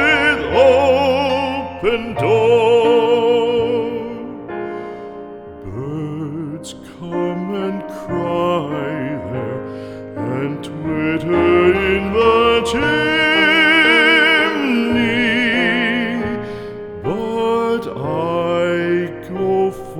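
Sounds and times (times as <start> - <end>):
person singing slow song: 0.0 - 19.9
soft accompaniment: 0.0 - 19.9.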